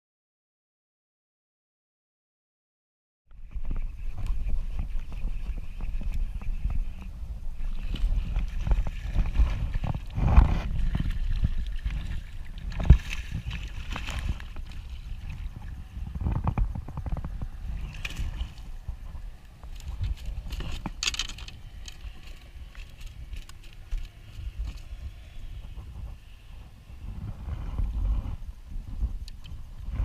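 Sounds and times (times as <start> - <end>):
wind and water rumble: 3.3 - 30.0.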